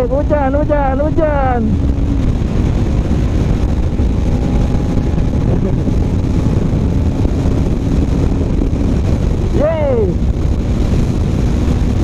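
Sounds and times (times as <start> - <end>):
motorcycle engine cruising: 0.0 - 12.0
wind noise on microphone: 0.0 - 12.0.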